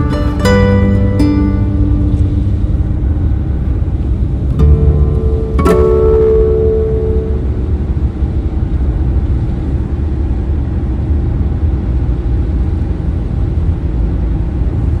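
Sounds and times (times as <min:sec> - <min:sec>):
moving car road and engine noise: 0:00.0 - 0:15.0.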